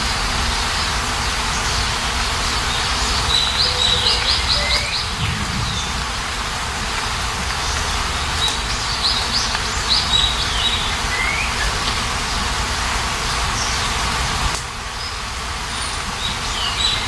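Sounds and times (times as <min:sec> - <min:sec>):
steady rain hiss: 0:00.0 - 0:17.0
small birds chirping: 0:00.5 - 0:12.5, 0:14.9 - 0:17.0.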